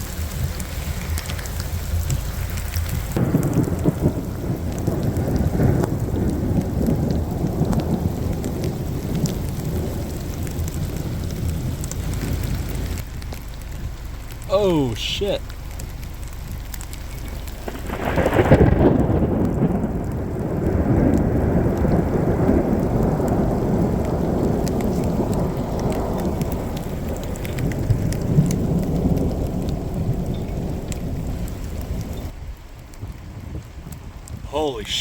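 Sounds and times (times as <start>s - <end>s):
thunder crack and rumble: 0.0s - 14.5s, 15.4s - 34.5s
heavy rain: 0.0s - 35.0s.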